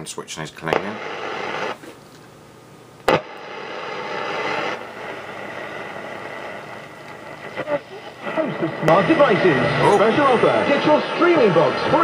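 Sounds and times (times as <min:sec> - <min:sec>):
radio static hiss: 0:00.2 - 0:02.1, 0:02.8 - 0:12.0
sharp radio crackle: 0:00.6 - 0:01.8, 0:03.0 - 0:12.0.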